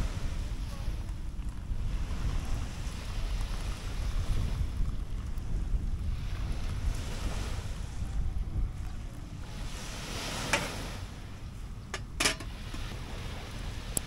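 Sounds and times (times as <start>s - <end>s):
sea waves washing onto beach: 0.0s - 14.0s
wind buffeting microphone: 0.0s - 14.0s.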